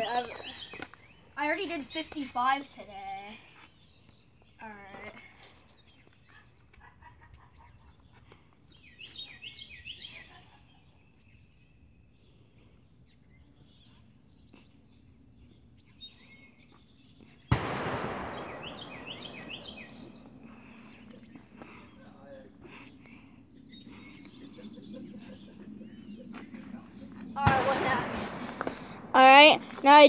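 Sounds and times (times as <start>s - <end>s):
faint outdoor background: 0.0s - 30.0s
small birds chirping: 0.0s - 30.0s.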